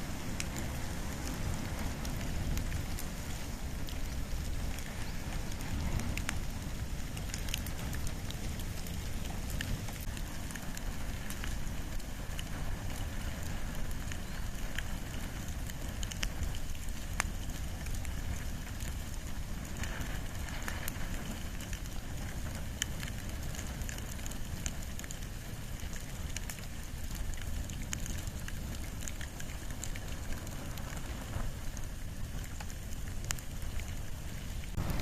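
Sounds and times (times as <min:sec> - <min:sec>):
bonfire crackles and pops: 0:00.0 - 0:35.0
fire low rumble: 0:00.0 - 0:35.0.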